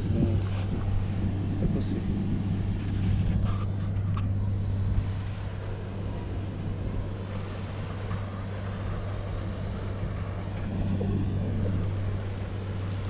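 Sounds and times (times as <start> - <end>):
steady low hum: 0.0 - 13.0
wind rushing over microphone: 0.0 - 13.0.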